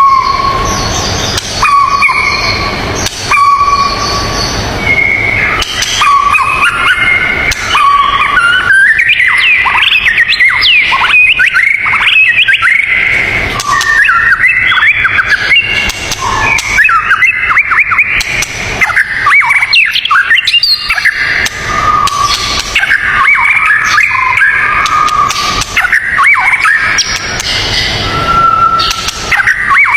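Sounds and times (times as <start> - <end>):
songbird singing trills: 0.0 - 29.9.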